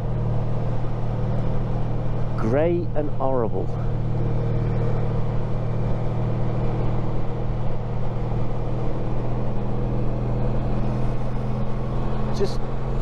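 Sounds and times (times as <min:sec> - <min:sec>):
motorcycle engine cruising: 0:00.0 - 0:13.0
road noise: 0:00.0 - 0:13.0.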